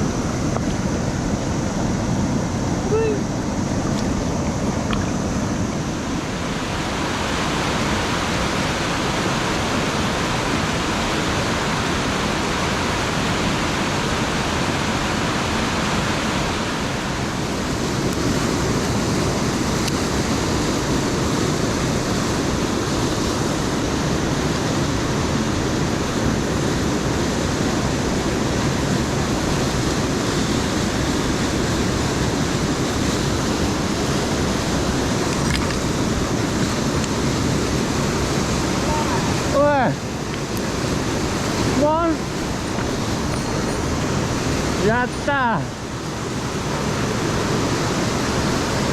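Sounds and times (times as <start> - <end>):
stream water roaring: 0.0 - 48.9.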